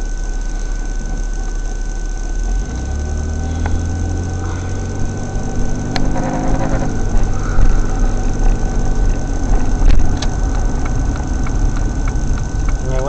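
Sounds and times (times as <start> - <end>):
car engine and road noise: 0.0 - 13.0
steady high whine: 0.0 - 13.0.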